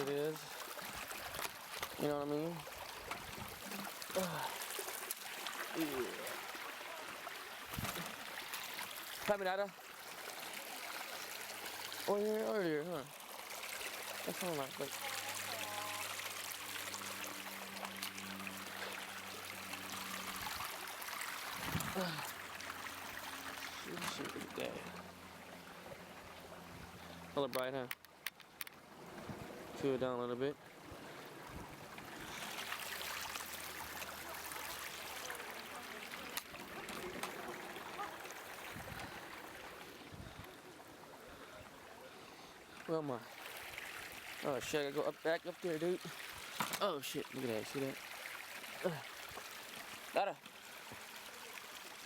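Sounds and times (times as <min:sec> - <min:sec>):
forest stream rushing: 0:00.0 - 0:27.4, 0:28.2 - 0:52.0.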